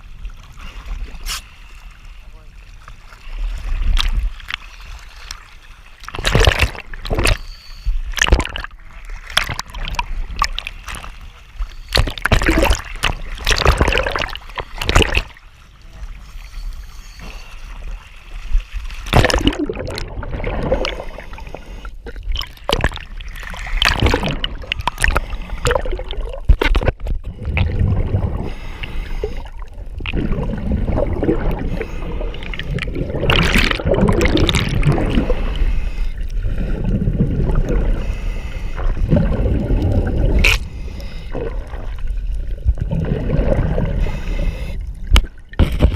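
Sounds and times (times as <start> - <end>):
water splashing against boat: 0.0 - 45.9.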